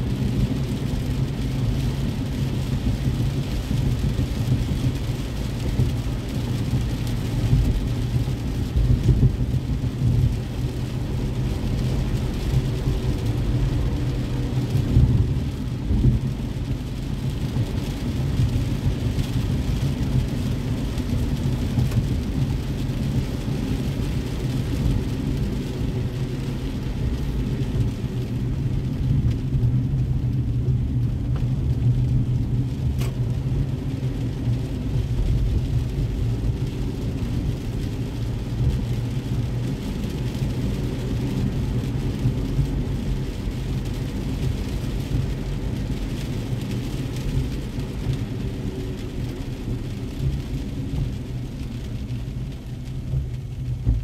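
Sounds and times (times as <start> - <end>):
car engine rumble: 0.0 - 54.0
tyres on wet road: 0.0 - 54.0.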